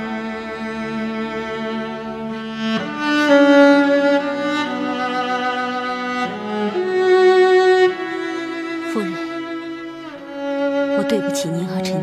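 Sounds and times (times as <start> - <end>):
bowed strings playing slow notes: 0.0 - 12.0.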